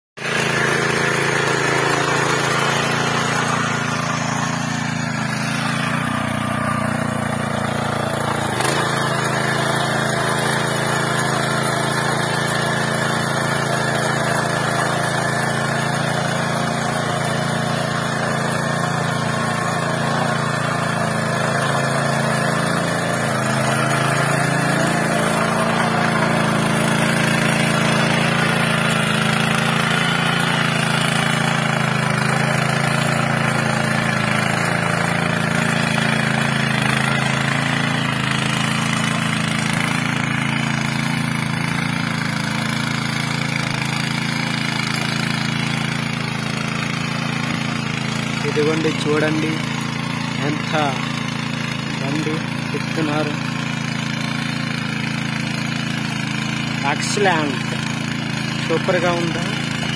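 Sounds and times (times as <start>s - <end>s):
small petrol engine running: 0.2s - 59.9s.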